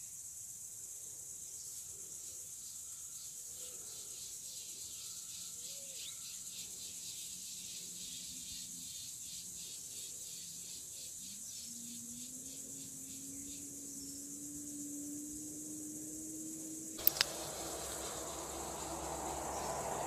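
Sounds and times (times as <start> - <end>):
insects calling: 0.0 - 20.0.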